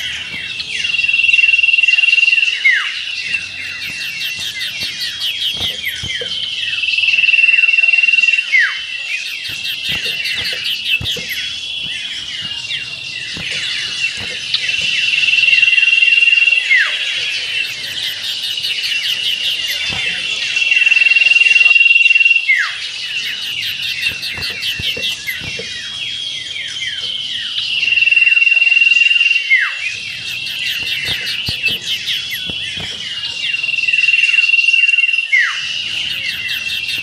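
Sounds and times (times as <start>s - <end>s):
songbirds singing in chorus: 0.0s - 37.0s.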